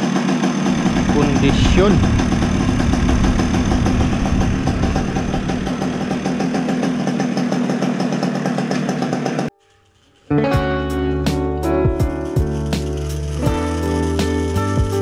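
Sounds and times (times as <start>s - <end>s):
scooter engine idling: 0.0s - 10.1s, 11.9s - 15.0s.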